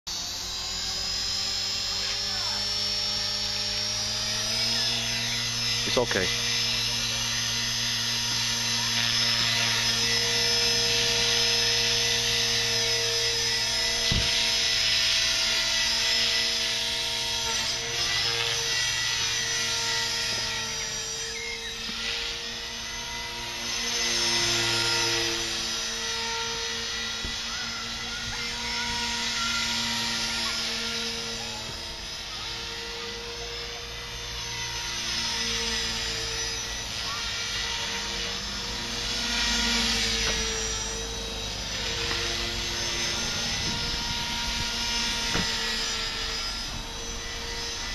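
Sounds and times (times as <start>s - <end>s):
rc helicopter motor whine: 0.1s - 47.9s.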